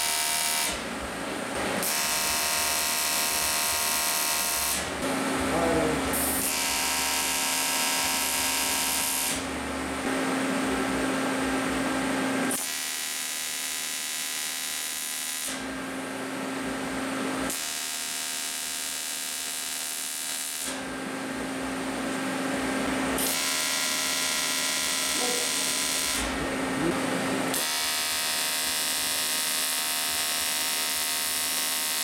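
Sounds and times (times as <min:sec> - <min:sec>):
welding arc buzzing and crackling: 0:00.0 - 0:01.0, 0:01.6 - 0:10.1, 0:12.4 - 0:15.8, 0:17.4 - 0:20.9, 0:22.6 - 0:32.0.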